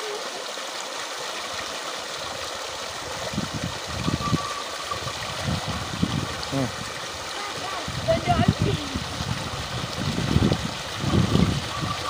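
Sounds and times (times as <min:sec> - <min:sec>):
water gushing into a tank: 0:00.0 - 0:12.0.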